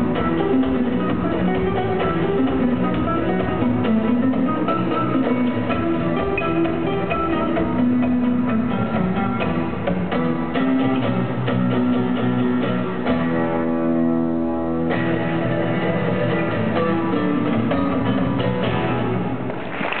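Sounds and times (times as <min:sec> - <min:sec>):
plucked guitar music over loudspeakers: 0:00.0 - 0:19.6.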